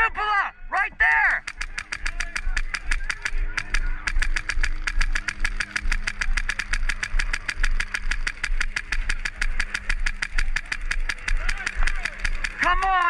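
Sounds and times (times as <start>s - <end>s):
airsoft gun full-auto fire: 1.4s - 13.0s.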